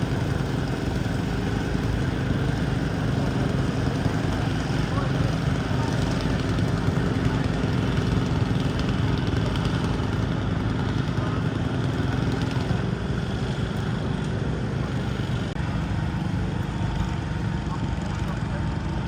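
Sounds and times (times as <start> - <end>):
garden tractor engine under load: 0.0 - 19.0.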